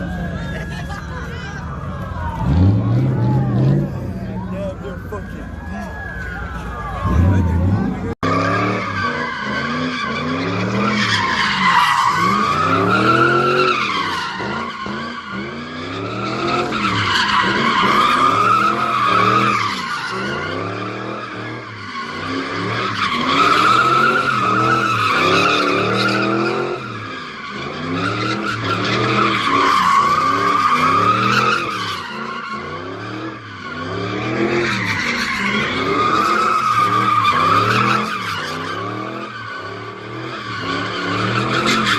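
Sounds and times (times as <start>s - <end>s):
car engine revving: 0.0s - 41.9s
tires squealing: 0.0s - 41.9s.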